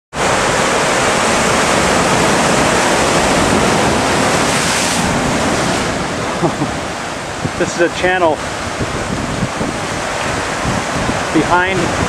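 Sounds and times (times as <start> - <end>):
ocean surf rushing through rocks: 0.1 - 12.0.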